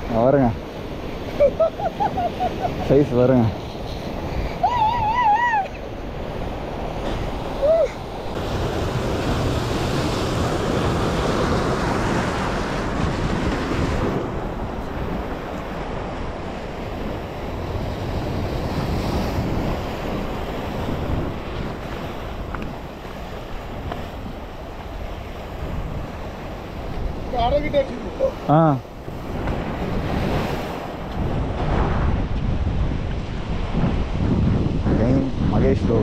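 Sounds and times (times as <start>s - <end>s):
surf washing against rocks: 0.0s - 36.0s
wind buffeting microphone: 0.0s - 36.0s.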